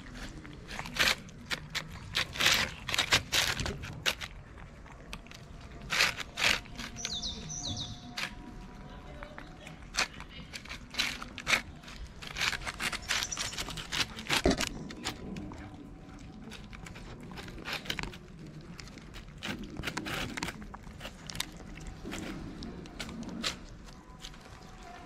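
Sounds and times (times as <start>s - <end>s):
cats chewing and smacking: 0.0s - 25.0s
plastic trays crinkling and scraping: 0.0s - 25.0s.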